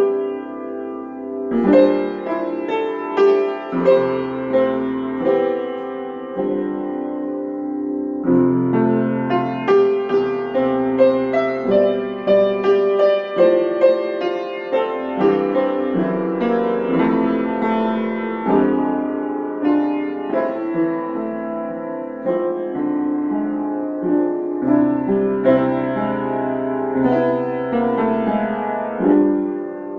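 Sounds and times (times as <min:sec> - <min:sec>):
slow piano keyboard piece: 0:00.0 - 0:29.9.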